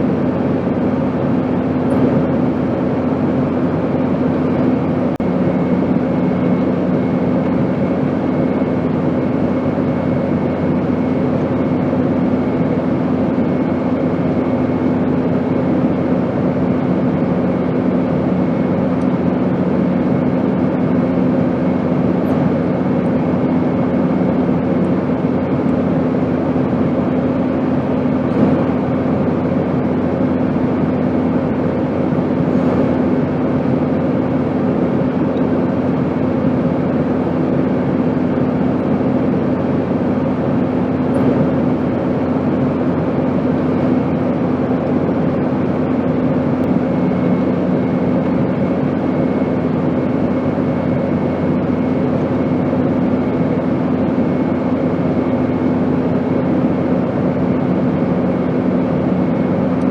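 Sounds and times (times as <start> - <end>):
airplane drone: 0.0 - 59.9.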